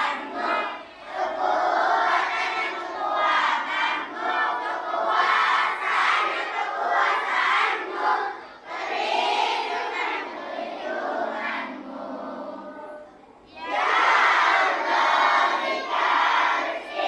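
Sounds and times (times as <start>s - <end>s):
children chanting in unison: 0.0s - 17.0s.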